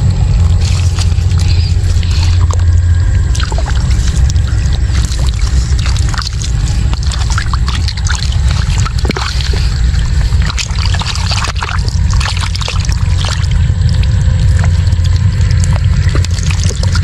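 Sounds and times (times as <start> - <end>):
shallow water splashing: 0.0 - 17.0
steady low rumble: 0.0 - 17.0.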